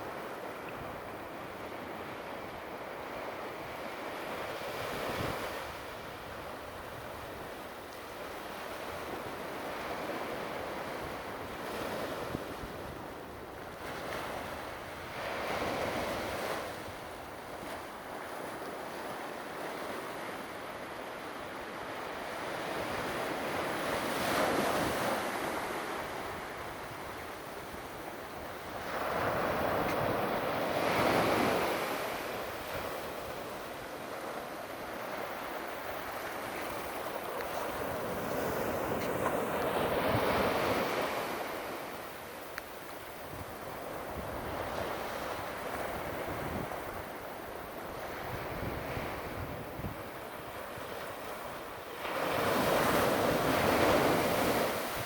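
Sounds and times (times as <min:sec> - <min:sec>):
ocean surf washing ashore: 0:00.0 - 0:55.0.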